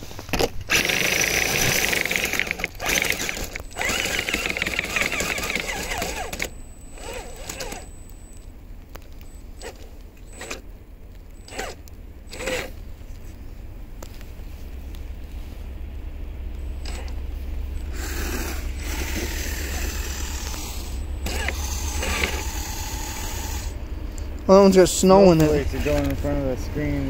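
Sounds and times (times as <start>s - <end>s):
rc car motor and gear whine: 0.0s - 27.0s.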